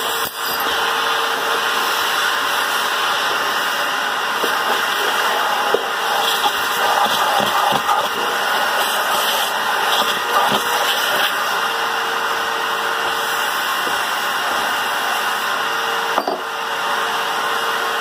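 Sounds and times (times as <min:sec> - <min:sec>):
shop vacuum running: 0:00.0 - 0:18.0.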